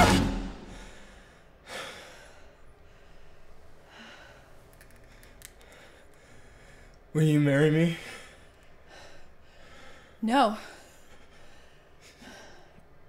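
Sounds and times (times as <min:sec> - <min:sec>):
soft breath: 0:00.6 - 0:07.1, 0:08.0 - 0:13.0.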